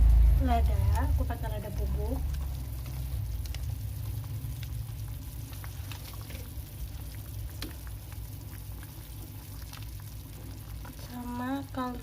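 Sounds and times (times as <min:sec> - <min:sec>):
low rumble of boiling: 0:00.0 - 0:12.0
soup bubbling in a pot: 0:00.0 - 0:12.0.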